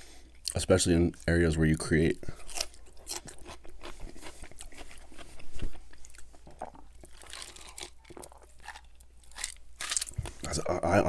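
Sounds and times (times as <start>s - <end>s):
pickle crunching being chewed: 0.4s - 10.4s.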